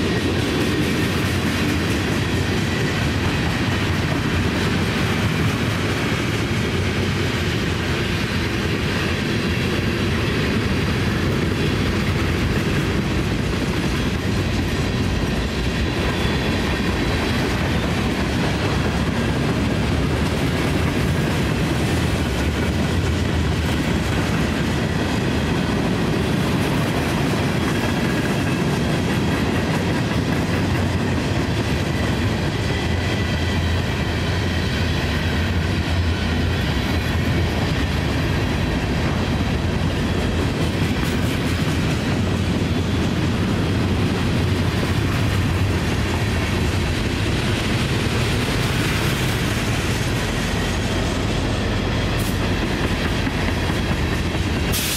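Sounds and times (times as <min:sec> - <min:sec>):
freight train wheels clacking: 0:00.0 - 0:54.9
high squeal of train wheels: 0:00.0 - 0:54.9.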